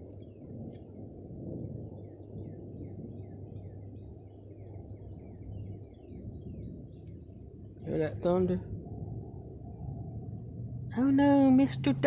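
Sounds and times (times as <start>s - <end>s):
birds chirping: 0.0s - 9.8s
low rumbling noise: 0.0s - 12.0s.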